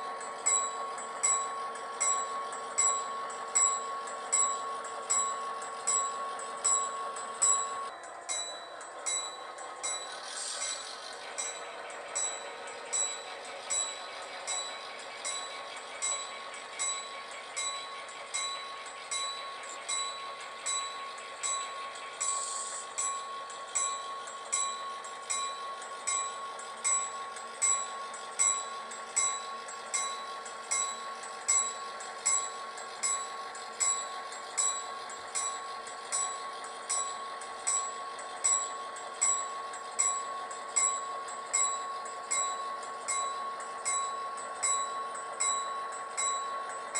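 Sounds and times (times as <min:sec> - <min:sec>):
model train running: 0:00.0 - 0:46.9.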